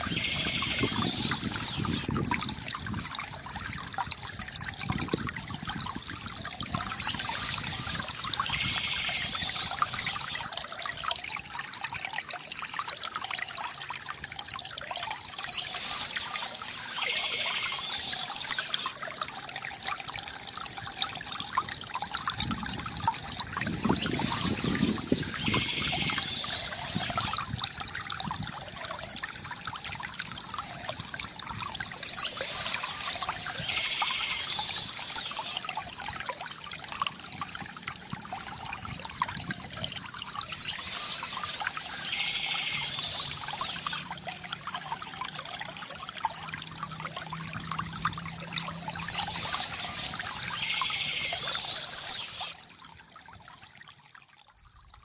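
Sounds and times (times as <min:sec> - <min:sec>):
small stream trickling: 0:00.0 - 0:55.0.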